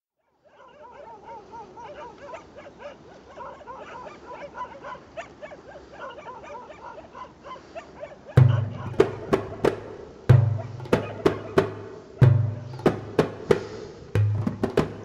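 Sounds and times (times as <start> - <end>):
chorus of yelping animal calls: 0.2 - 13.0
faint hiss: 0.4 - 15.0.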